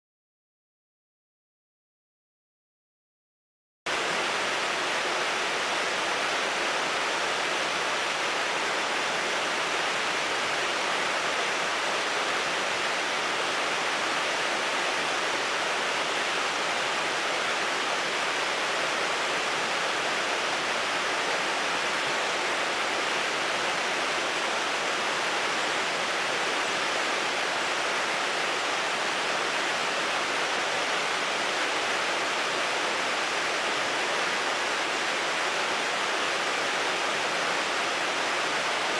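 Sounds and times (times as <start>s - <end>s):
river rapids rushing over rocks: 3.9s - 38.9s.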